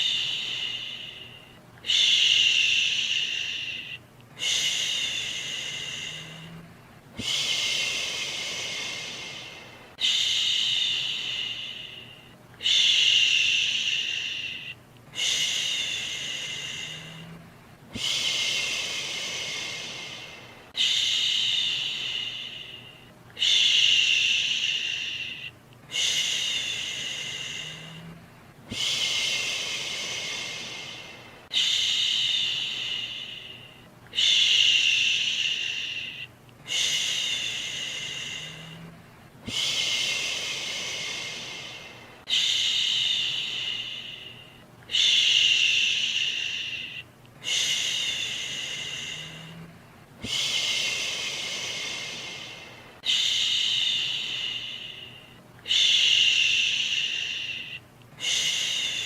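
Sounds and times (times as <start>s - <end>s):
person shushing: 0.0s - 59.0s.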